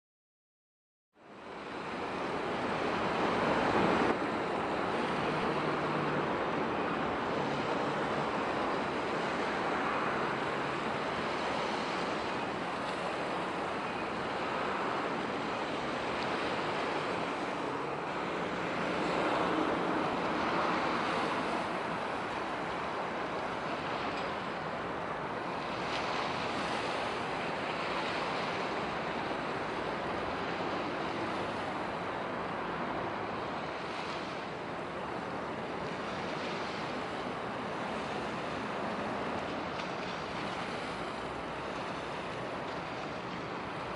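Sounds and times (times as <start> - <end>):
waves washing: 1.3 - 43.9.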